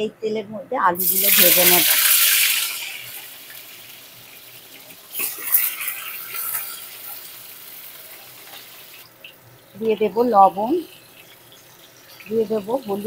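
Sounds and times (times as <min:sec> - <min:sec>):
potatoes sizzling in oil: 0:01.0 - 0:13.0.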